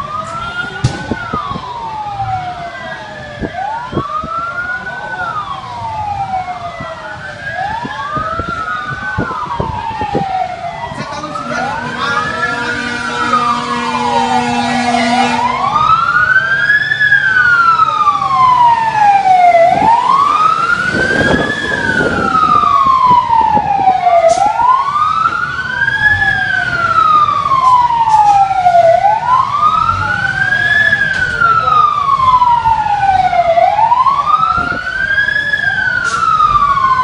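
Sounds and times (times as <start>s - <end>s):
emergency vehicle siren wailing: 0.0s - 37.0s
second siren overlapping: 0.0s - 37.0s.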